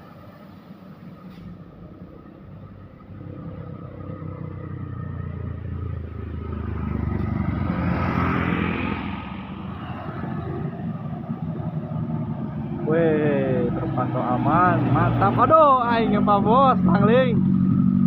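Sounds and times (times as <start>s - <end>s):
vehicle passing by: 1.3s - 18.0s.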